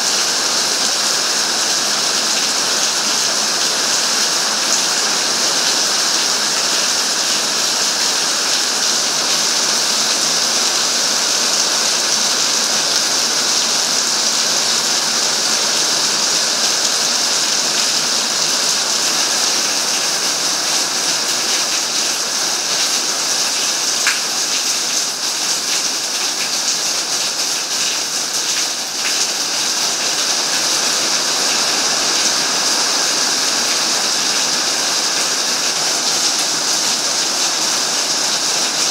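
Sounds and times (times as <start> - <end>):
heavy rain on paving: 0.0 - 38.9.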